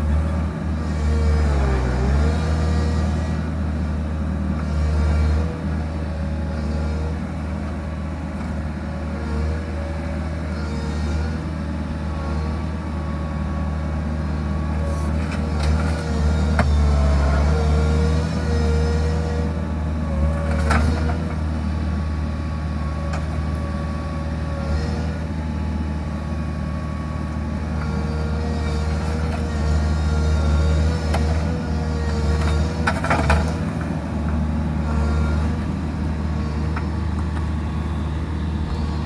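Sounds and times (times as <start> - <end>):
diesel engine running under load: 0.0 - 39.0.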